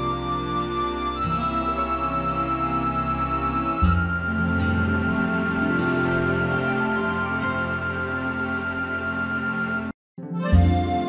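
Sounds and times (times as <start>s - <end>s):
background music with sustained tones: 0.0s - 11.0s.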